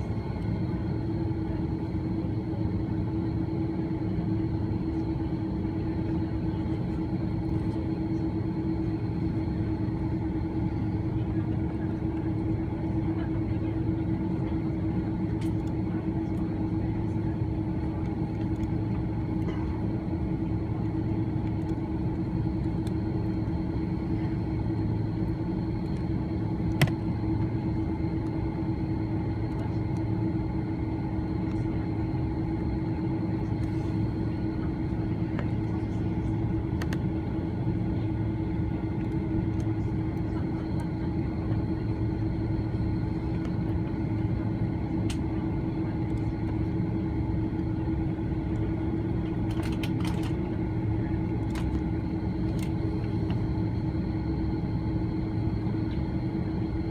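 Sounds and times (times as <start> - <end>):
airliner engines humming: 0.0 - 56.9.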